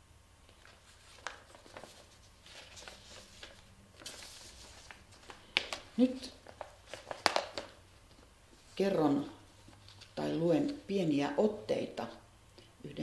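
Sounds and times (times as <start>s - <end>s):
paper sheets rustling: 0.5s - 10.9s.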